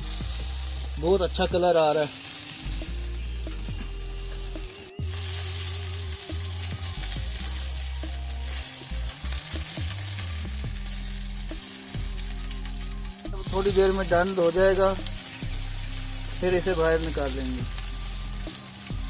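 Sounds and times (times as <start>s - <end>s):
chicken sizzling in oven: 0.0s - 19.0s.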